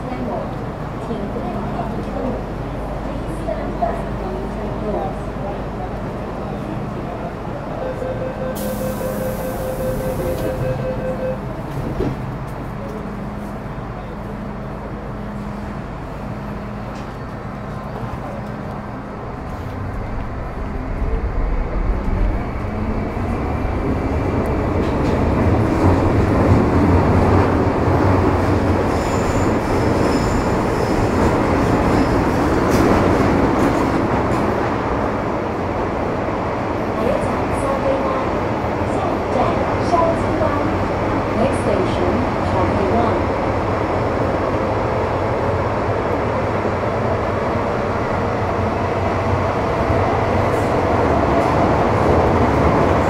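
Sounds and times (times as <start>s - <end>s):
train wheels and motors rumbling: 8.6s - 53.0s.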